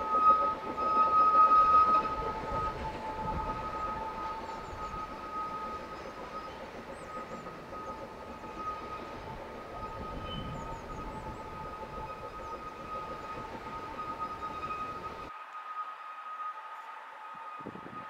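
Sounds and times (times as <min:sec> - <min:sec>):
hissing steam: 0:00.0 - 0:18.0
steam locomotive whistle: 0:00.0 - 0:18.0.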